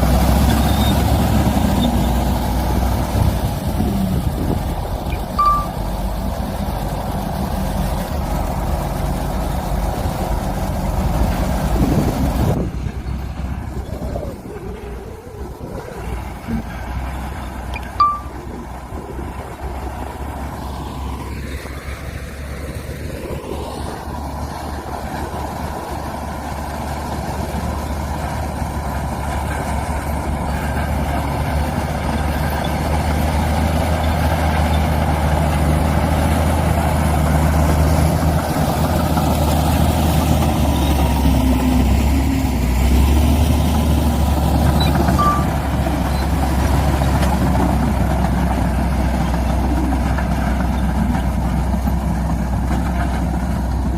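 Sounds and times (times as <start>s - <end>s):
diesel machinery engine rumble: 0.0s - 53.9s.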